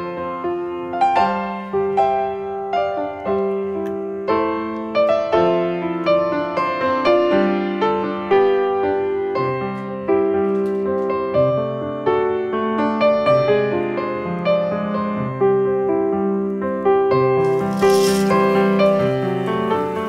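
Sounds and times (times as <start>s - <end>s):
gentle piano tune: 0.0s - 20.0s.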